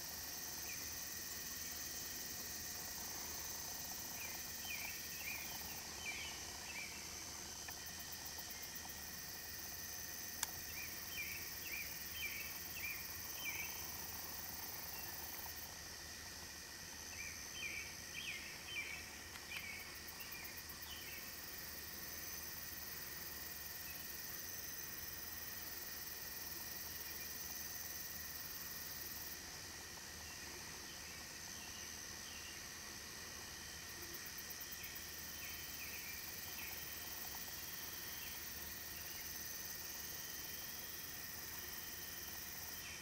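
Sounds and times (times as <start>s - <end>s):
faint high hiss: 0.0s - 43.0s.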